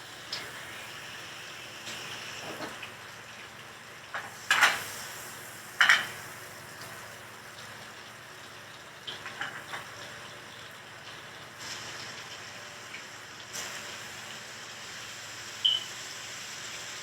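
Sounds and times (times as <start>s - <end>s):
food sizzling: 0.0s - 17.0s.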